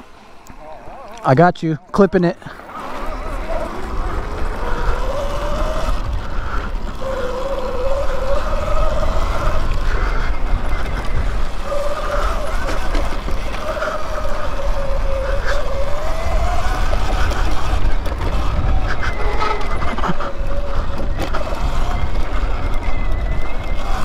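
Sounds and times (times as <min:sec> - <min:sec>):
electric dirt bike motor whining: 0:00.0 - 0:24.0
wind rumble on microphone: 0:02.7 - 0:24.0.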